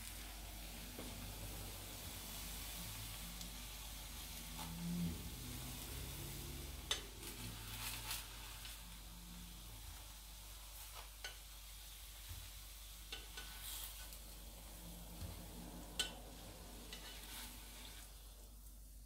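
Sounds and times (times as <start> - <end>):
oil sizzling in frying pan: 0.0 - 19.0.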